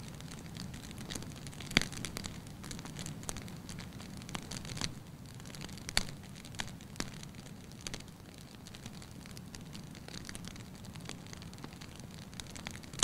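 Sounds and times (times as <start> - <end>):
fire crackling and popping: 0.0 - 13.0
fire low rumble: 0.0 - 13.0.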